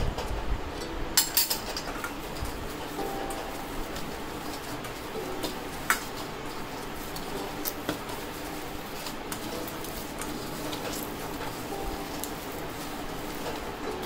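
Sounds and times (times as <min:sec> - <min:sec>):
hands kneading dough in bowl: 0:02.4 - 0:14.0.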